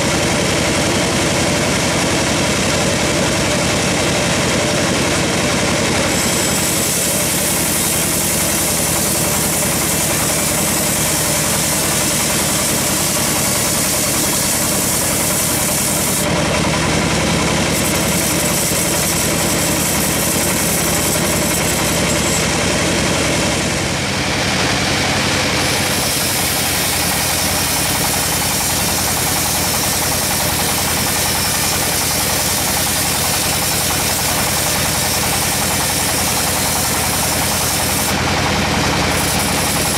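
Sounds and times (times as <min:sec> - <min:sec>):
band sawmill drone: 0:00.0 - 0:39.9
saw blade cutting wood: 0:00.0 - 0:39.9.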